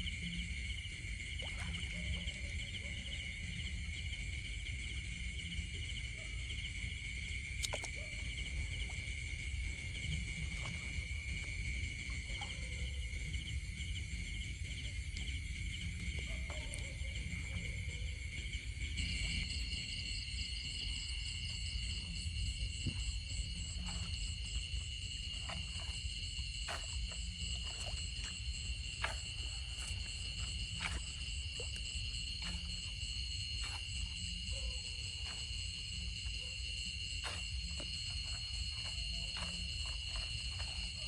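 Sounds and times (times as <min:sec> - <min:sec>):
insect chorus buzzing: 0:00.0 - 0:41.0.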